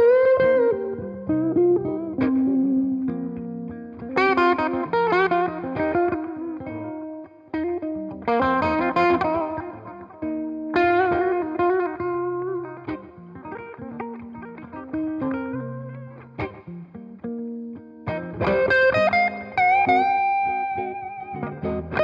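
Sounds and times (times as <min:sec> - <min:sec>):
electric guitar chords ringing: 0:00.0 - 0:22.0.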